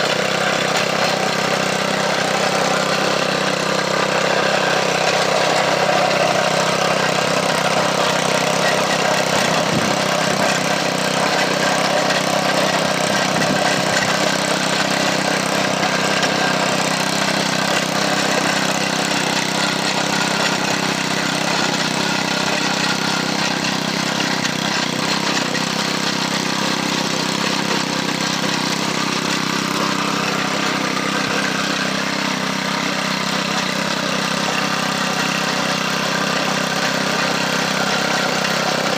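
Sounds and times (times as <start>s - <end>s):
garden tiller engine running: 0.0s - 38.9s.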